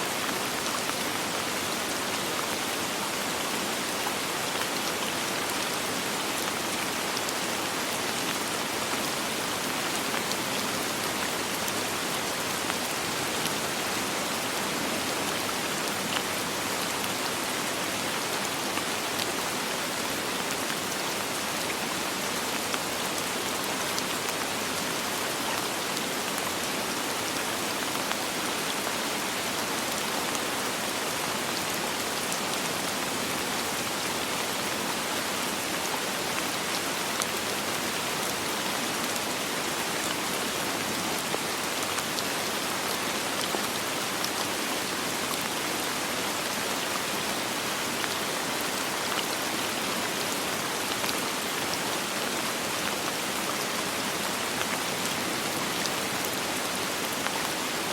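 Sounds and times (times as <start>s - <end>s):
soft rain falling: 0.0s - 57.9s.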